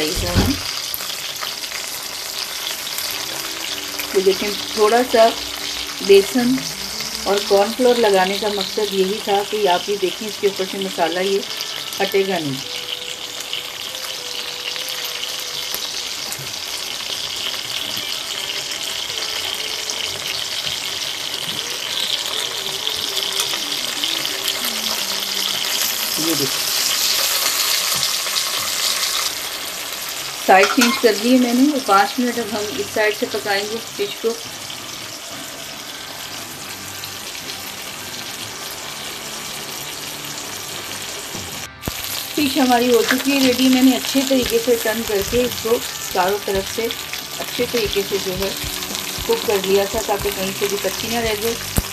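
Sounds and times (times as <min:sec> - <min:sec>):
fish sizzling in hot oil: 0:00.0 - 0:51.9.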